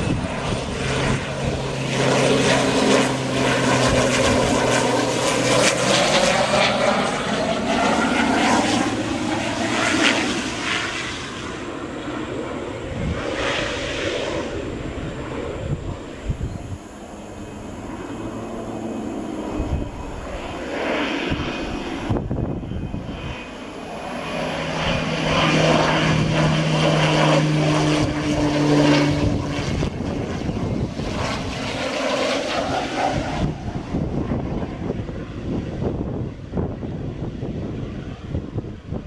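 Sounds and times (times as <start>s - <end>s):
propeller plane flying overhead: 0.0s - 39.0s.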